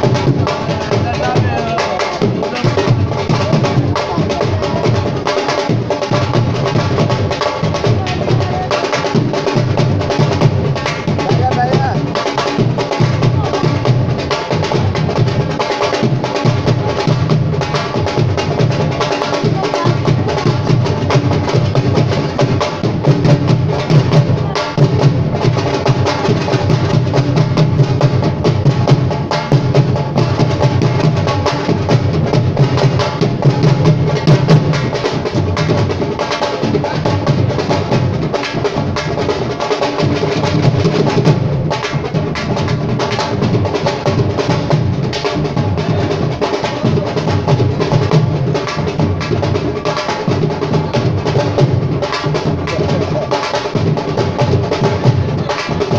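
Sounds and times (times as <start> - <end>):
fast drumming: 0.0 - 55.9.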